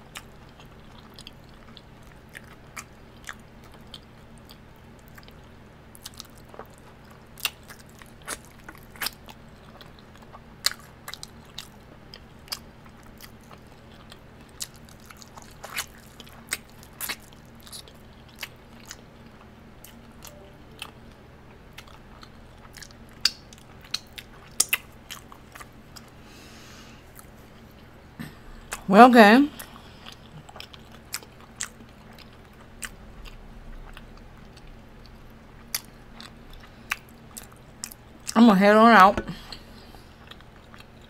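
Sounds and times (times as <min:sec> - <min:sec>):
person chewing food: 0:00.0 - 0:28.9, 0:29.6 - 0:38.4, 0:39.3 - 0:41.0
faint low hum: 0:00.0 - 0:41.0.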